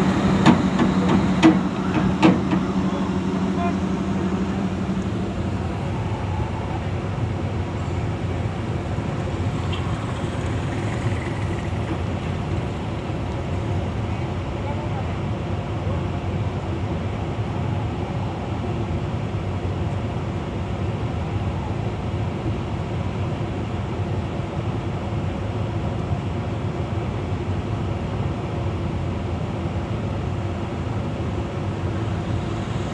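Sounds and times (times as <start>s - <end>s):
large vehicle engine droning: 0.0s - 32.9s.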